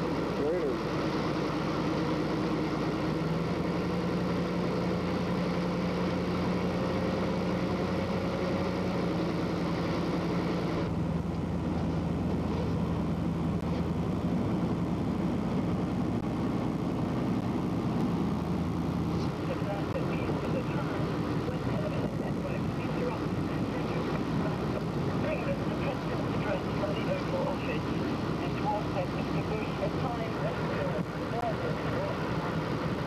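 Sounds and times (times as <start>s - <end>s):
road and wind noise: 0.0s - 33.0s
vehicle engine droning: 0.0s - 33.0s.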